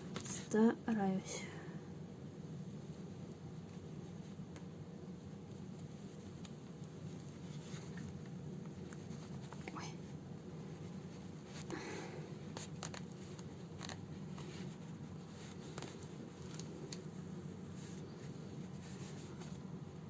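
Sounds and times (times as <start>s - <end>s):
low room hum: 0.0s - 20.0s
needle and thread through fabric: 2.7s - 20.0s.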